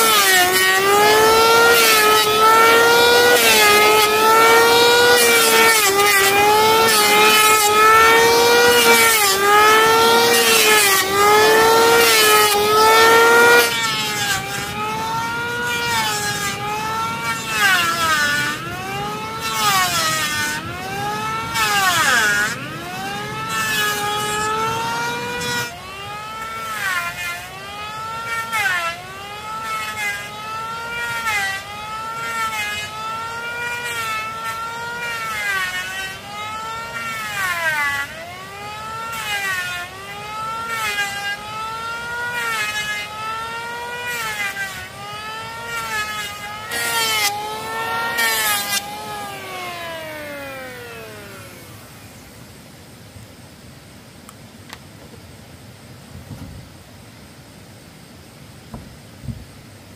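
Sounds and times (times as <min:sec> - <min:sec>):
electric planer cutting wood: 0:00.0 - 0:52.5.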